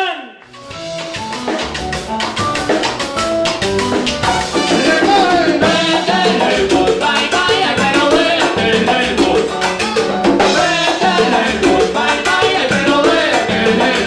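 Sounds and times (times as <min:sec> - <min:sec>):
salsa band playing: 0:00.4 - 0:14.0.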